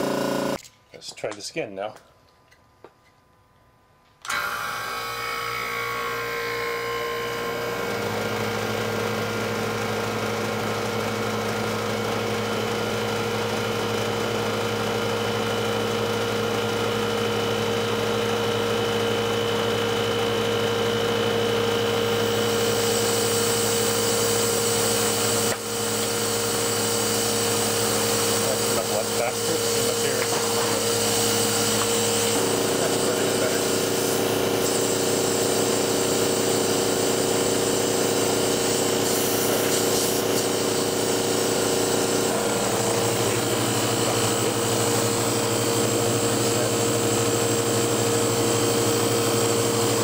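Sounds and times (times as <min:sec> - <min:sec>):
compressor humming: 0:00.0 - 0:50.0.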